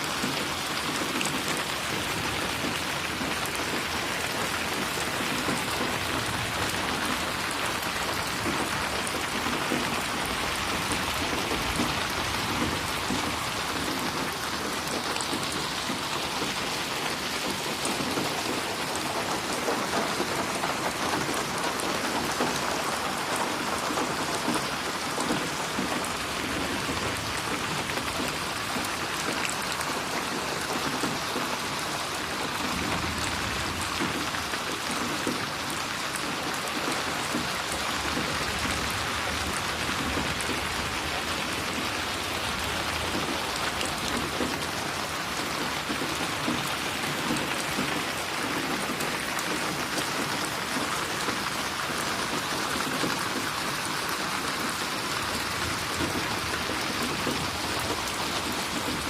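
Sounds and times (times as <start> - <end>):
heavy rain splashing: 0.0 - 59.0.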